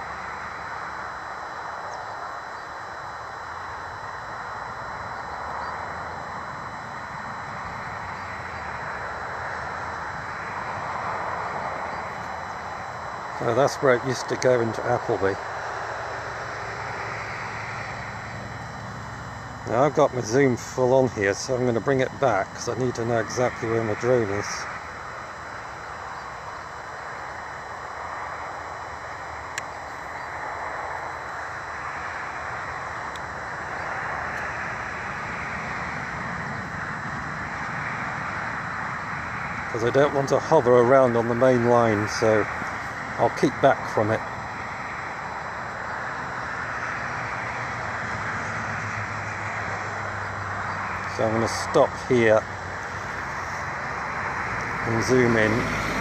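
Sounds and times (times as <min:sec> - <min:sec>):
distant road traffic hum: 0:00.0 - 0:56.0.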